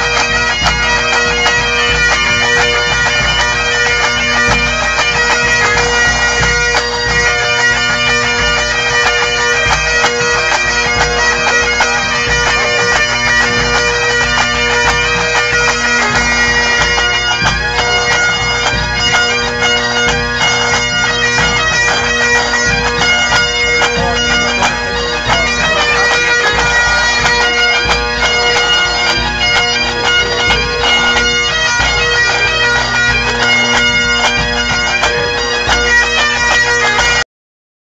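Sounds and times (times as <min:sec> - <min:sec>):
bagpipe band playing: 0:00.0 - 0:37.2.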